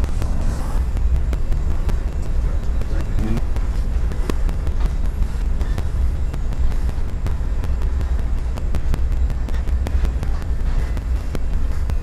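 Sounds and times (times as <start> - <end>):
boat engine rumble: 0.0 - 12.0
sharp ticks and rattles: 0.0 - 12.0.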